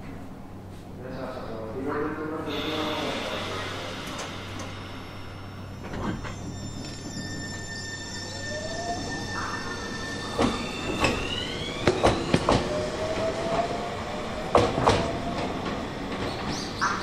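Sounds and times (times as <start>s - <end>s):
electric train motor whine: 2.5s - 16.8s.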